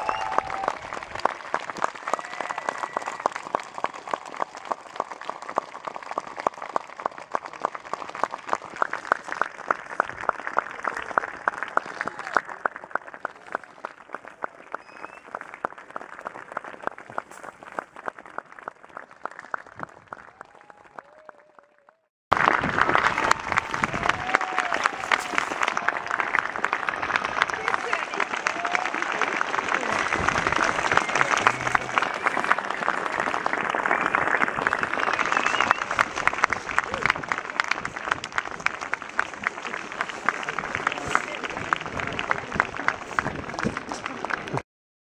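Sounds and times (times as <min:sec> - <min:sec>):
audience applauding: 0:00.0 - 0:44.6
close hands clapping sharply: 0:00.0 - 0:44.6.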